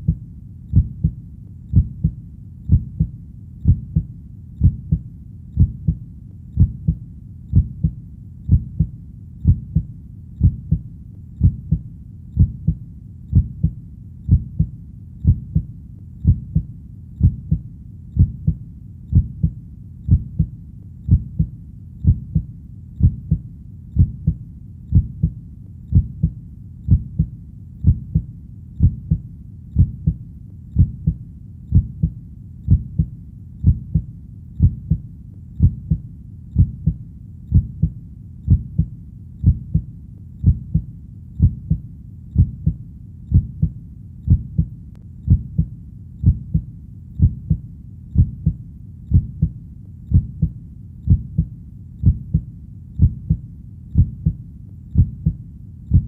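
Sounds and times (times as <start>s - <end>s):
heartbeat double thump: 0.0s - 5.0s, 5.6s - 6.0s, 6.6s - 10.8s, 11.4s - 11.8s, 12.4s - 17.6s, 18.2s - 20.5s, 21.1s - 23.4s, 24.0s - 29.2s, 29.8s - 30.2s, 30.8s - 35.0s, 35.6s - 36.0s, 36.6s - 41.8s, 42.4s - 44.7s, 45.3s - 47.6s, 48.2s - 53.4s, 54.0s - 54.4s, 55.0s - 56.0s
faint low background rumble: 0.0s - 56.0s.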